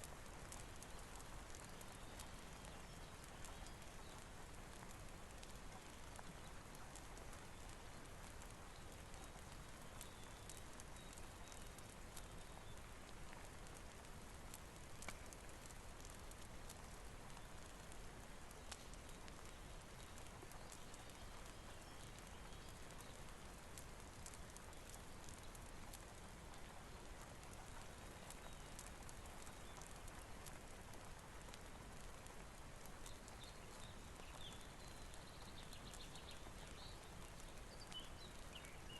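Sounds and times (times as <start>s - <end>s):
steady rain hiss: 0.0s - 38.9s
wood fire crackling: 0.0s - 38.9s.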